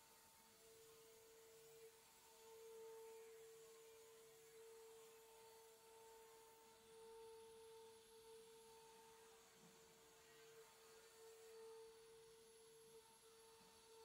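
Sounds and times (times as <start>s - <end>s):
router spindle whine: 0.0s - 14.0s.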